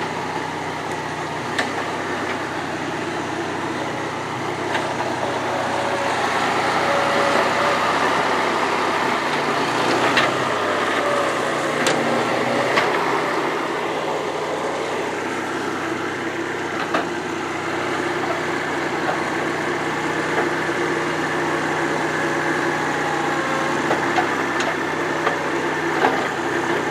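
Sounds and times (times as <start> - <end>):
engine running steadily: 0.0 - 26.9.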